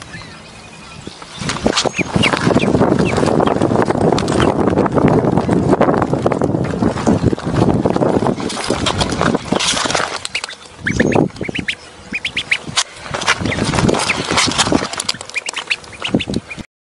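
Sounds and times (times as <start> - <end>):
duckling peeping: 0.0 - 16.7
wind on microphone: 0.0 - 16.7.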